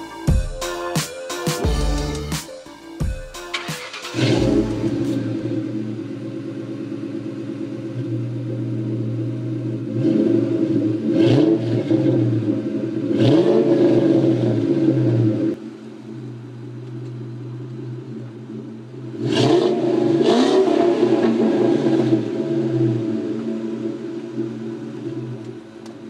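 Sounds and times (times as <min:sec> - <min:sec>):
car engine idling and revving: 0:03.0 - 0:26.0.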